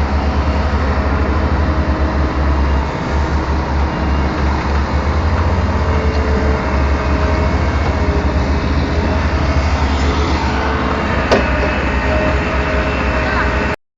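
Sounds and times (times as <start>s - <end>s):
excavator diesel engine rumbling: 0.0s - 13.8s.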